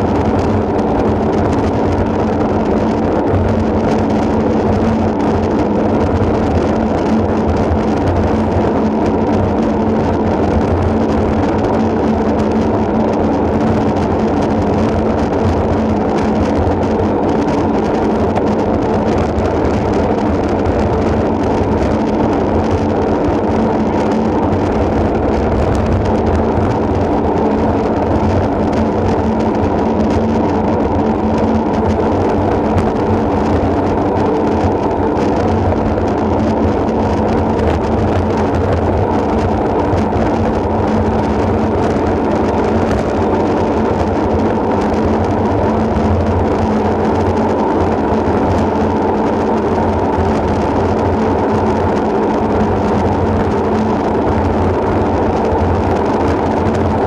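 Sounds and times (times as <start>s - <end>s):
bike tyres humming on asphalt: 0.0s - 57.0s
wind rushing over microphone: 0.0s - 57.0s.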